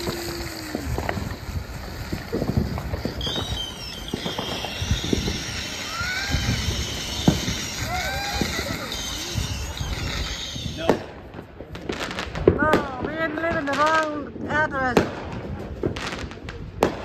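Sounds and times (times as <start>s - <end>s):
firework fountain crackling: 0.0s - 17.0s.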